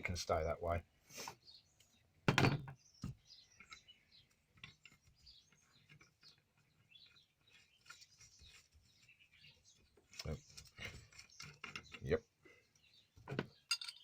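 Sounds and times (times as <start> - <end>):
birds chirping faintly: 0.0 - 14.0.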